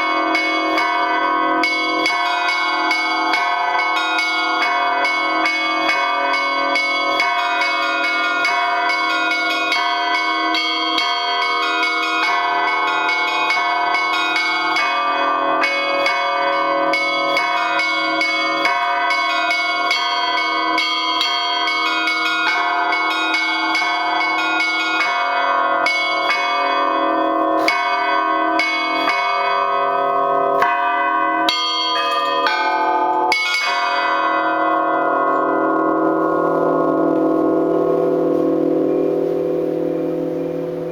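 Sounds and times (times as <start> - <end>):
big bell low tolling: 0.0 - 40.9
middle church bells: 0.0 - 40.9
small church bells struck quickly: 0.0 - 40.9.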